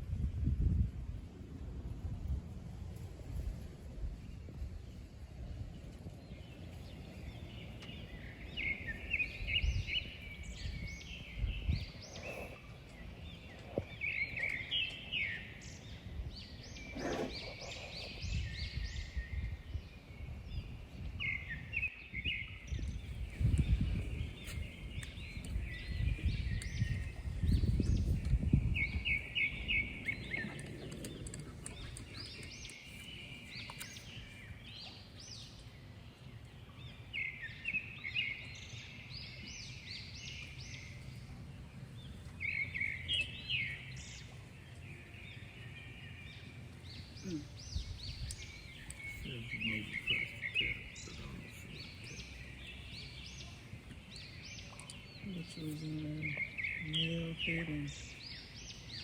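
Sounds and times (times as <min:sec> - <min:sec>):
birds chirping and singing: 0:05.8 - 0:59.0.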